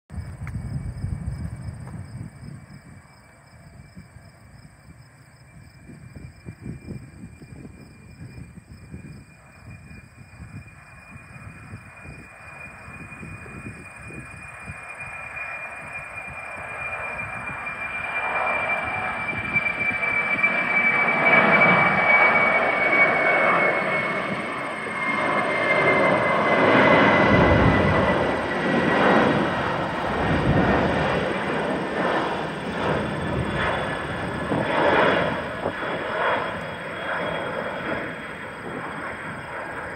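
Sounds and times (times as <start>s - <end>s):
jet engine roar: 0.2s - 39.9s.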